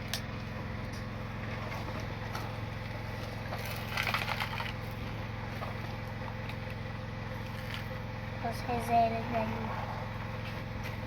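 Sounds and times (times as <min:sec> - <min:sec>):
excavator motor humming: 0:00.0 - 0:11.0.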